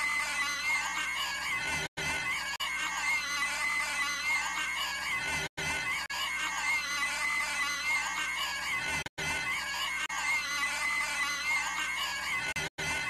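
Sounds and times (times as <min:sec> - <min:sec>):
cartoon character screeching: 0:00.0 - 0:13.0.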